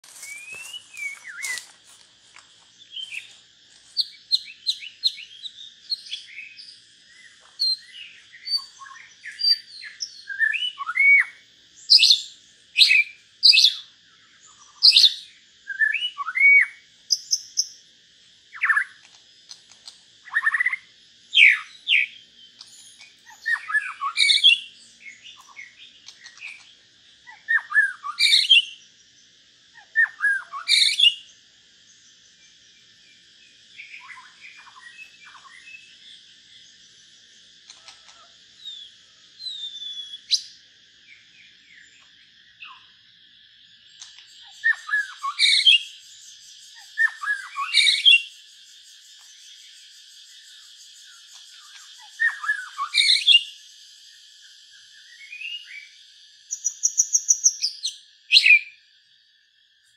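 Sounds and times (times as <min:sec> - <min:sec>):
birds whistling and chirping: 0:00.0 - 0:01.9, 0:02.8 - 0:17.8, 0:18.5 - 0:29.0, 0:29.7 - 0:43.1, 0:43.7 - 0:58.8
steady high hiss: 0:00.0 - 0:59.9.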